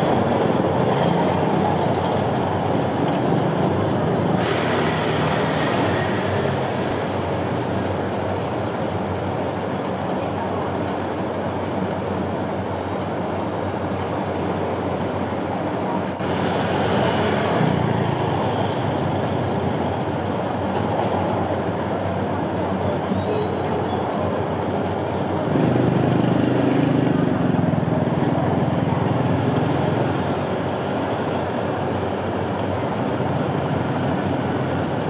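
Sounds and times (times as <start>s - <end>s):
passing traffic rumble: 0.0s - 35.0s.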